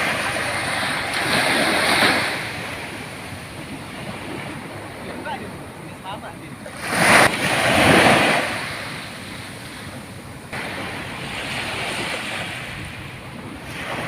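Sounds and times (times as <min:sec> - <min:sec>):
ocean waves breaking on beach: 0:00.0 - 0:14.0.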